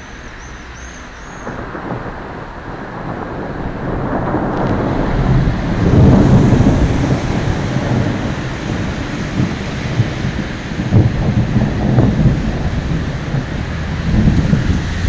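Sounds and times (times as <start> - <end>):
rain hissing: 0.0 - 15.0
thunder rolling: 1.2 - 15.0.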